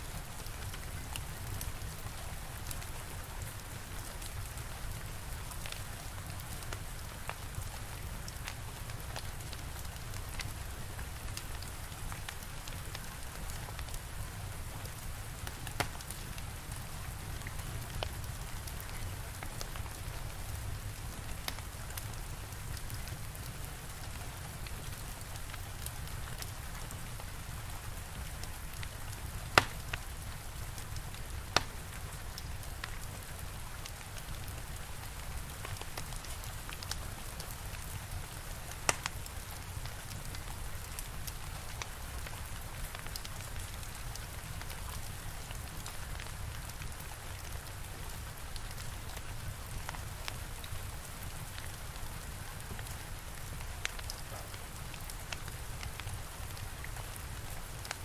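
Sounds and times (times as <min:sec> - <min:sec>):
steady rain hiss: 0:00.0 - 0:58.0
wood fire crackling and popping: 0:00.5 - 0:58.0.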